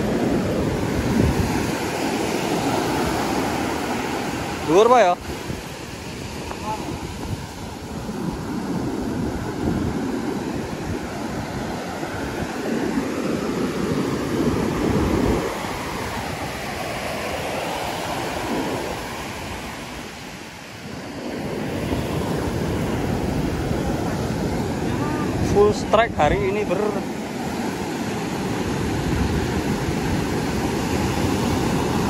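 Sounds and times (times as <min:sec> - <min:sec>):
surf breaking on beach: 0:00.0 - 0:32.0
wind buffeting microphone: 0:00.0 - 0:32.0.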